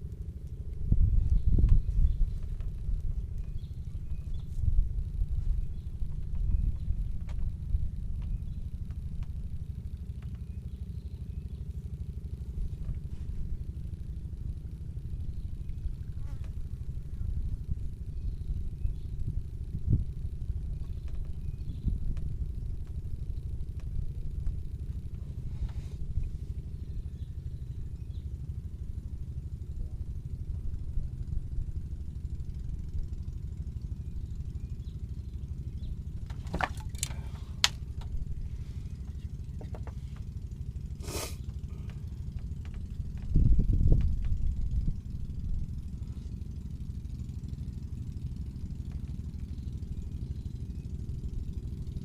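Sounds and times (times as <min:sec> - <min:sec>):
low rumble: 0:00.0 - 0:52.0.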